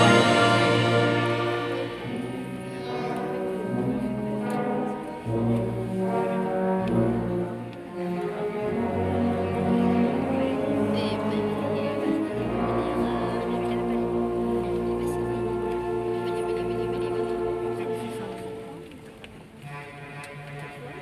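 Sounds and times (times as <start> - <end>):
wind band playing chords: 0.0 - 20.6.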